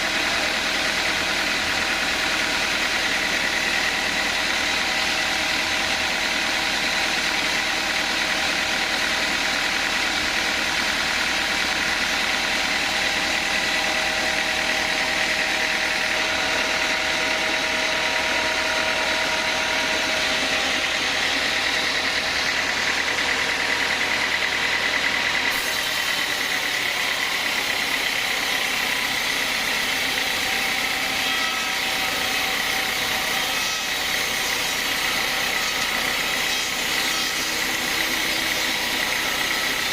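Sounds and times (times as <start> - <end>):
band saw machinery drone: 0.0 - 39.9.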